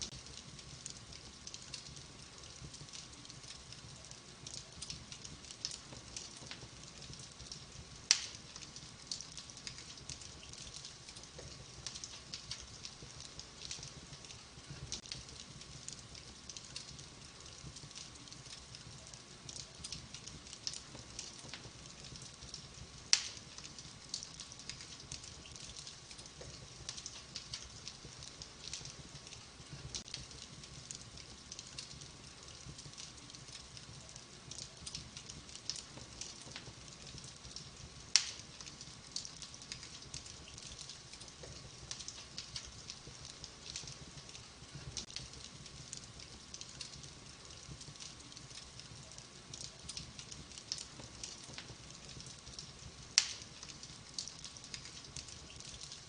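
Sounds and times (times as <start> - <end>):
fire crackling in a fireplace: 0.0 - 56.0
loud fire pops: 4.4 - 33.9, 34.5 - 56.0.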